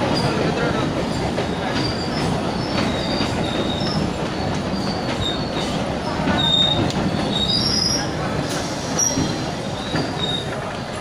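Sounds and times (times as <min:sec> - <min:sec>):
rail joint clicks: 0:00.0 - 0:11.0
train wheels rumbling: 0:00.0 - 0:11.0
wheel squeals: 0:01.4 - 0:11.0.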